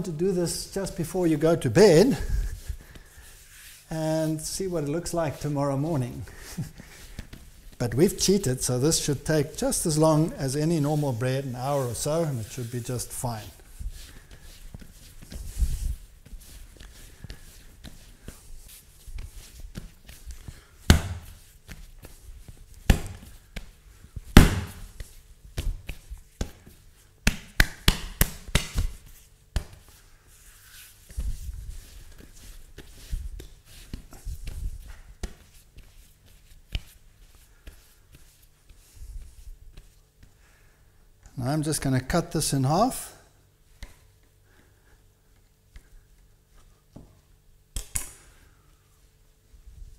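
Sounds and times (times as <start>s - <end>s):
hands kneading dough: 0.0s - 49.9s.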